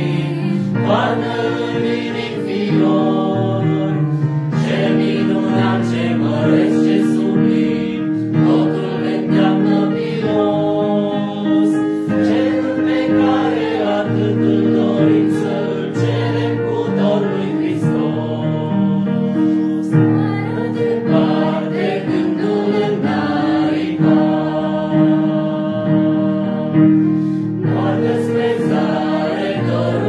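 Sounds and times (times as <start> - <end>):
group singing a hymn: 0.0 - 30.0.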